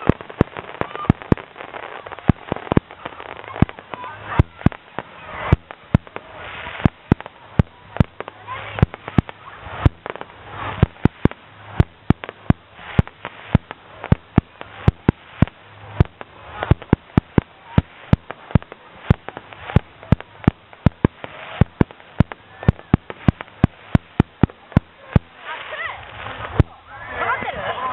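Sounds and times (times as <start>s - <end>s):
fireworks bursting: 0.0s - 27.6s.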